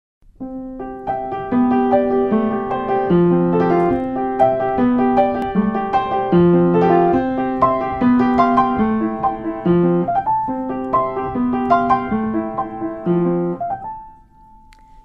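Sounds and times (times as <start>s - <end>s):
solo piano playing: 0.3s - 15.0s.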